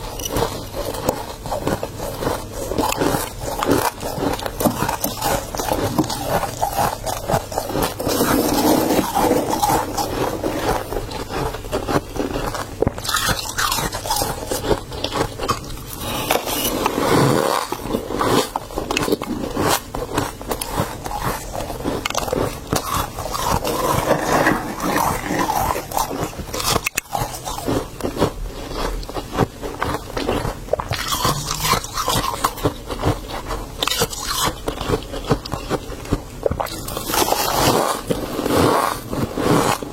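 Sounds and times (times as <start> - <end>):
frost being scraped: 0.0 - 28.8, 36.7 - 39.9
crunchy chewing: 0.0 - 39.9.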